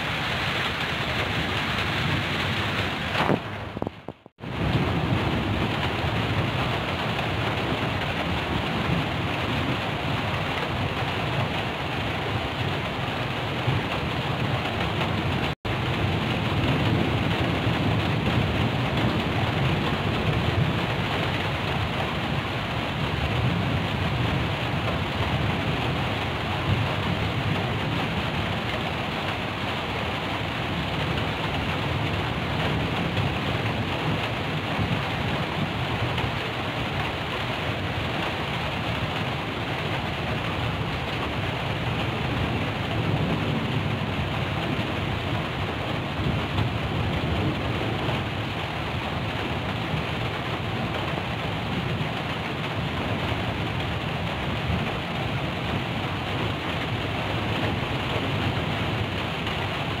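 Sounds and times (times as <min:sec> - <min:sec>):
heavy rain on a tin roof: 0:00.0 - 1:00.0
thunder rumbling: 0:00.0 - 1:00.0.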